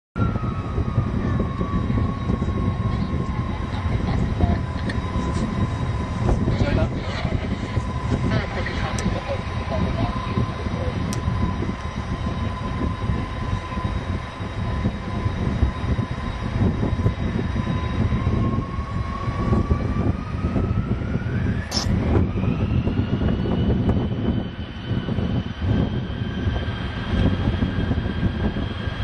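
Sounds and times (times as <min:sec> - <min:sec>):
jet engines rumbling and whining: 0:00.2 - 0:29.0.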